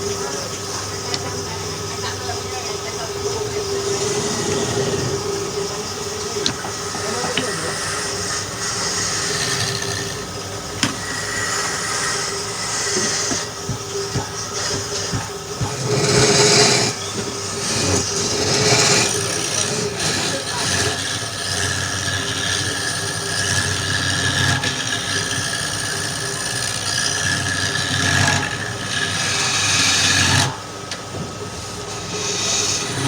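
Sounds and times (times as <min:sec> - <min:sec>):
lathe running: 0:00.0 - 0:33.0
tool cutting wood hissing: 0:00.0 - 0:33.0.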